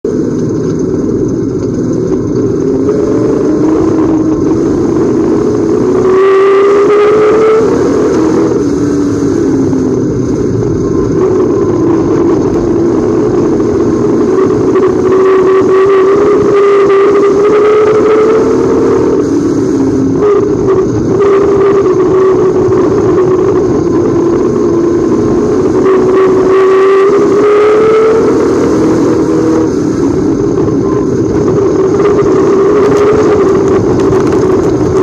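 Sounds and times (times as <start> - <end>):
race car engines accelerating: 0.0 - 35.0.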